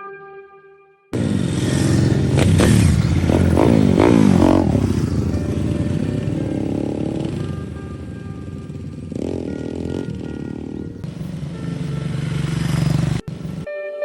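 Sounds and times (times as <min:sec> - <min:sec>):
motorcycle engine revving: 0:01.2 - 0:13.7.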